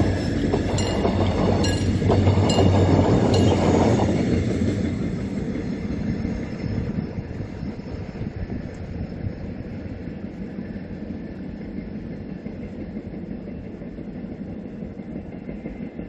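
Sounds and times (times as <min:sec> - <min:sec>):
diesel train passing: 0:00.0 - 0:16.0
train wheel clacks: 0:00.0 - 0:16.0.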